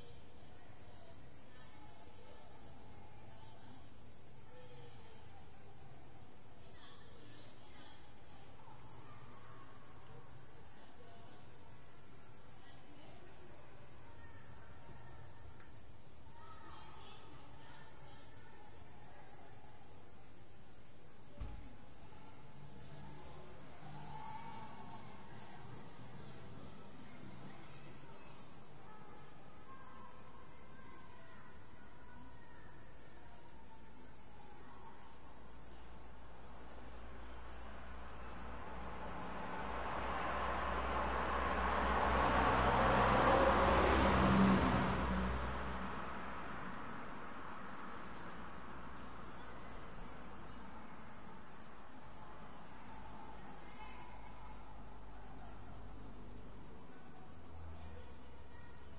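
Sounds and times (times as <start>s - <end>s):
crickets trilling: 0.0s - 58.9s
faint distant sounds: 0.0s - 58.9s.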